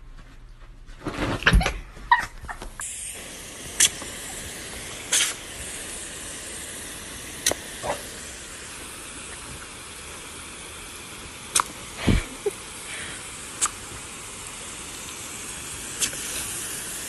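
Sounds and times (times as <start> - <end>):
hose nozzle spraying water: 2.8 - 17.0.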